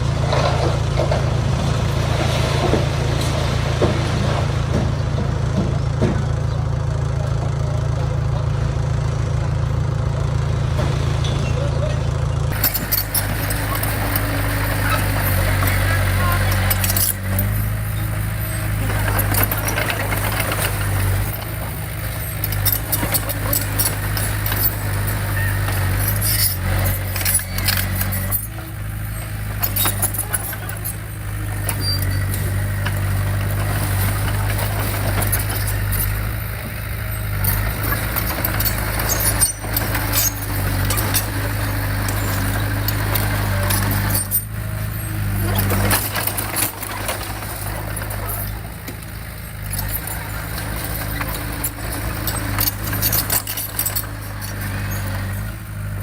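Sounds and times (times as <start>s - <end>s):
diesel engine running: 0.0s - 56.0s
metal clanks and rattles: 0.1s - 6.6s, 10.7s - 56.0s.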